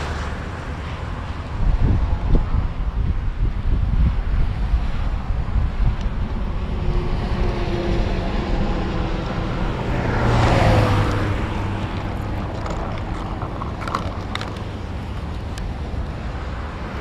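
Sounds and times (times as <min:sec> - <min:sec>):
highway traffic: 0:00.0 - 0:17.0
wind on microphone: 0:00.0 - 0:17.0
vehicle passing: 0:03.4 - 0:17.0.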